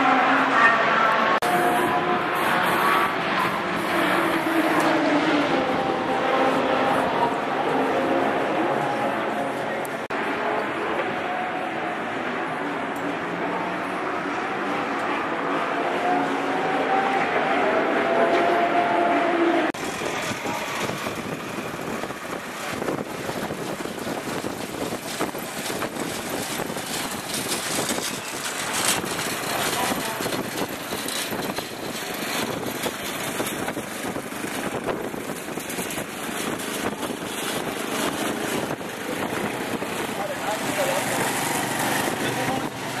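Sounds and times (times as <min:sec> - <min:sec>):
vehicle engine noise with hiss: 0:01.4 - 0:16.3, 0:19.8 - 0:43.0.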